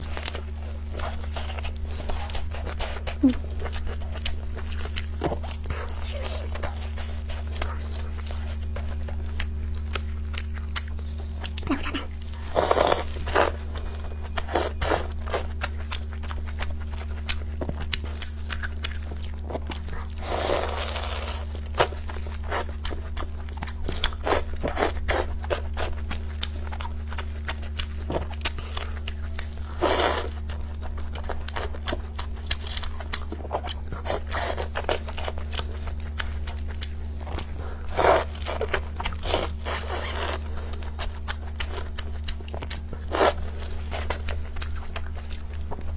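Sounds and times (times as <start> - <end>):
crunching and chewing: 0.0 - 45.9
steady low hum: 0.0 - 45.9.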